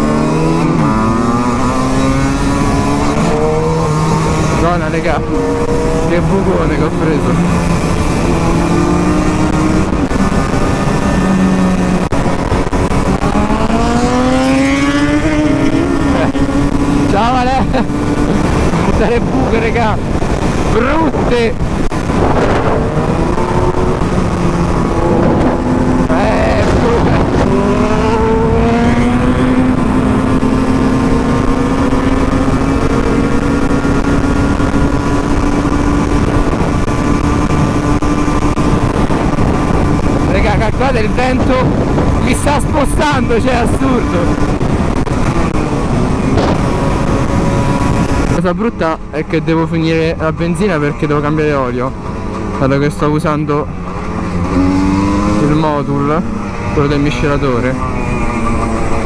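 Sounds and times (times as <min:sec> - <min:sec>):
motorcycle engine at high revs: 0:00.0 - 0:59.0
wind rushing over microphone: 0:00.0 - 0:59.0.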